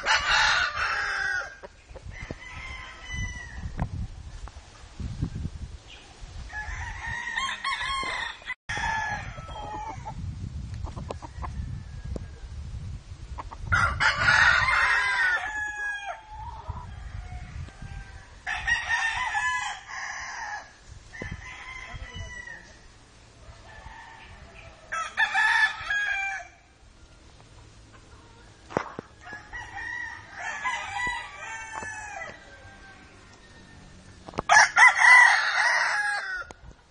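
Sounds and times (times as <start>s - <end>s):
roosters crowing: 0.0s - 3.8s, 6.4s - 10.2s, 11.0s - 12.6s, 13.6s - 36.9s.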